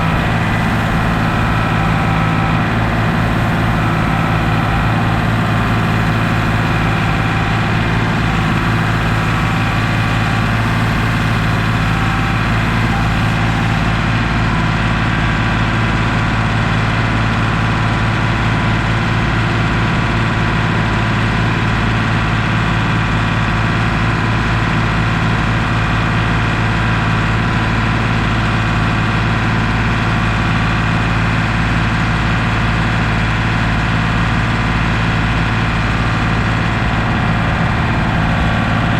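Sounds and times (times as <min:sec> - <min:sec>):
heavy equipment engine idling: 0:00.0 - 0:38.9.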